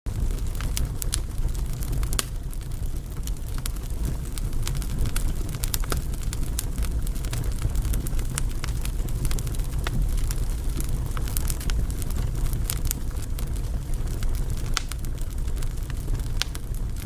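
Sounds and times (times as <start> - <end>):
firewood crackling and popping: 0.1 - 17.0.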